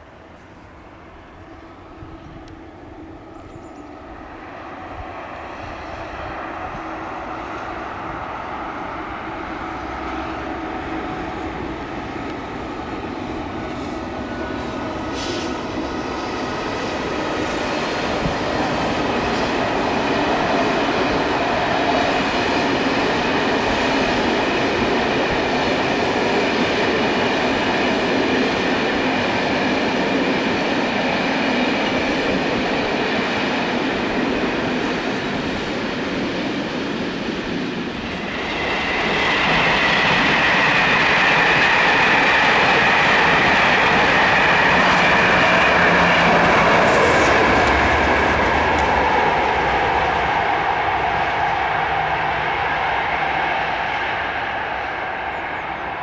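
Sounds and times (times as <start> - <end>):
electric train whine: 0.0 - 56.0
train wheels on rails: 0.0 - 56.0.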